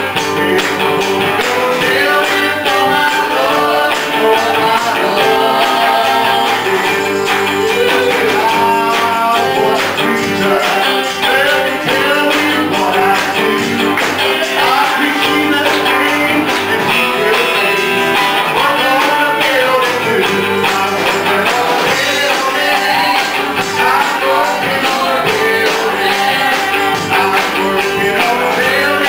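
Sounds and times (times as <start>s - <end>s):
live band with electric guitar: 0.0s - 29.0s
man singing into a microphone: 0.0s - 29.0s.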